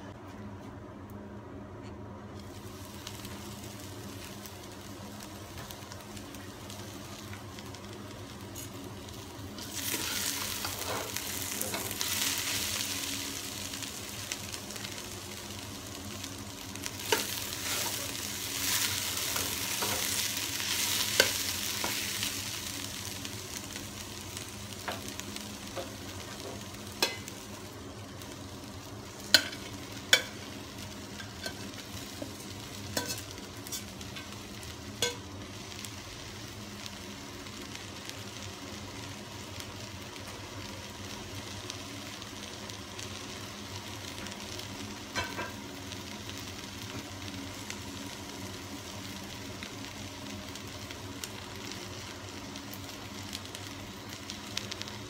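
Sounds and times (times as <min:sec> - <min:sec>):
low steady hum: 0:00.0 - 0:55.0
vegetables sizzling in a pot: 0:02.4 - 0:55.0.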